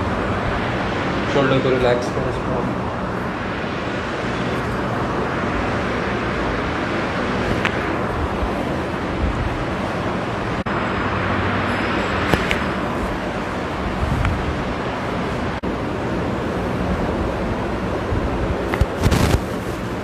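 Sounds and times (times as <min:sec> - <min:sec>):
background traffic noise: 0:00.0 - 0:20.0.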